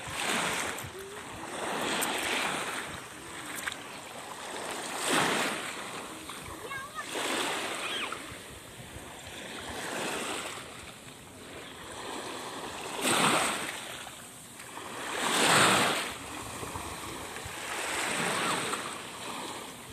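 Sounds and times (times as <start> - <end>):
waves washing on sandy shore: 0.0 - 19.9.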